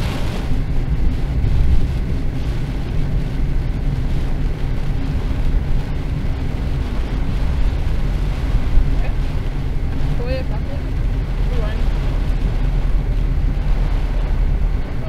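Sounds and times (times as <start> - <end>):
rain and tyre spray hiss: 0.0 - 15.0
road and engine rumble: 0.0 - 15.0.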